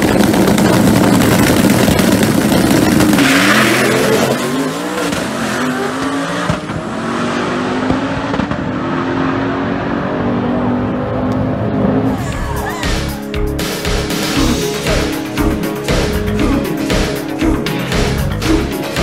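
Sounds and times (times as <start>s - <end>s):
drag car engine at full throttle: 0.0s - 19.0s.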